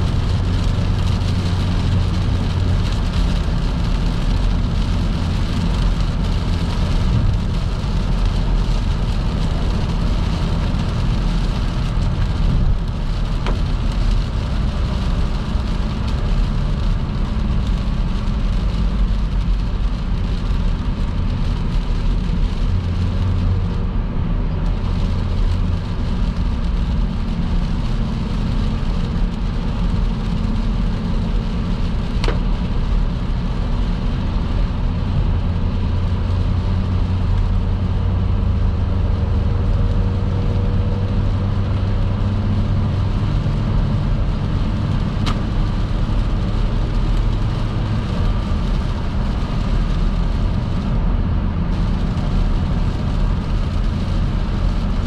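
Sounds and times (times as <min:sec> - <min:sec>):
car engine and tyres rumbling: 0:00.0 - 0:55.0
wet road and rain noise: 0:00.0 - 0:55.0.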